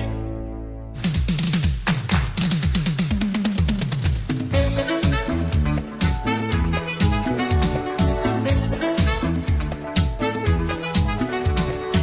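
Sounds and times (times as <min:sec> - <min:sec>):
upbeat music with walking bass: 0:00.0 - 0:12.0.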